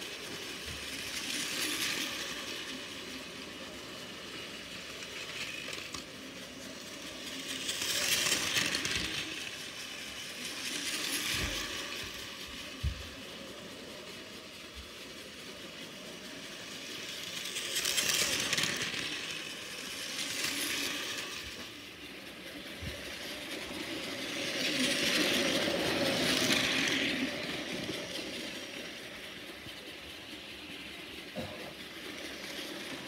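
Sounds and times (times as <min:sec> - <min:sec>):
plastic wheels rattling on rails: 0:00.0 - 0:33.0
small electric motor whirring: 0:00.0 - 0:33.0.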